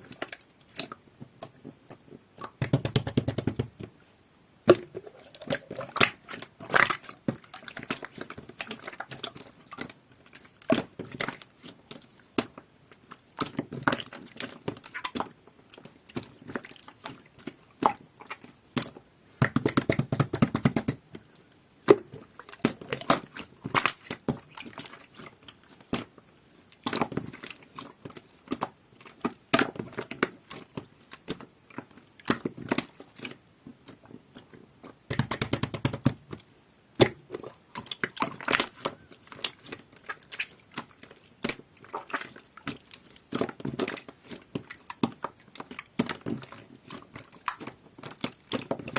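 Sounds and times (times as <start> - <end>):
slime squelching: 0.0 - 48.9.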